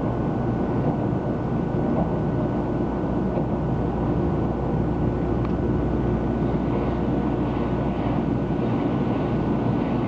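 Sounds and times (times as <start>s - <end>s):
train running rumble and hiss: 0.0s - 10.0s.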